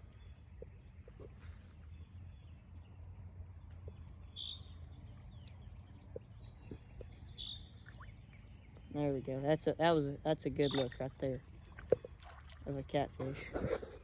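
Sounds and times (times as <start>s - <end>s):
bird chirping: 0.0s - 11.8s.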